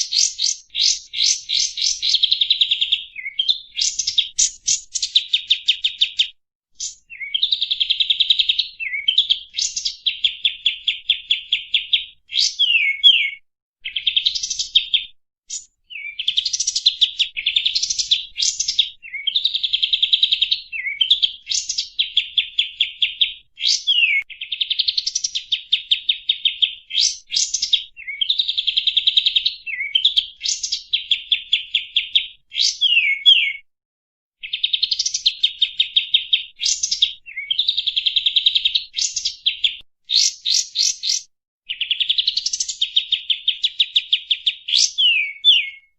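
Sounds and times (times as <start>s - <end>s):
songbird singing: 0.0s - 33.6s, 34.4s - 45.9s.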